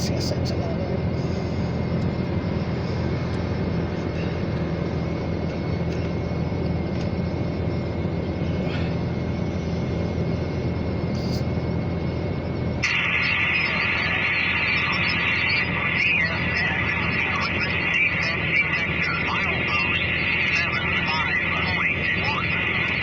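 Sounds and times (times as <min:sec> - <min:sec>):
faint high whine: 0:00.0 - 0:23.0
low engine rumble: 0:00.0 - 0:23.0.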